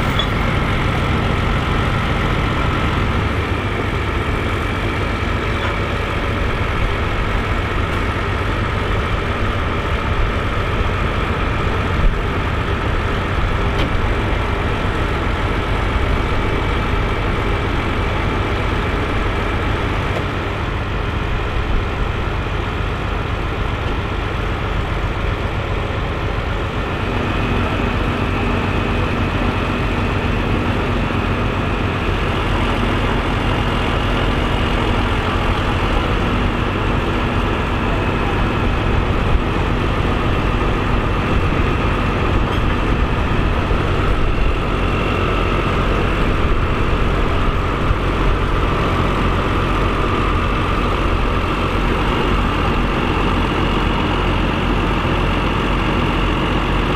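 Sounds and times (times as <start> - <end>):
tractor diesel engine rumble: 0.0 - 56.9.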